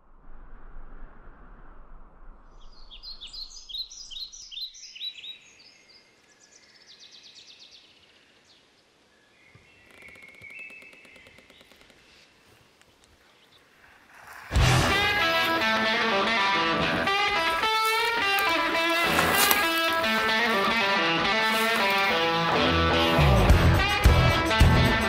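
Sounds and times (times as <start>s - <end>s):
songbirds chirping: 2.6s - 23.3s.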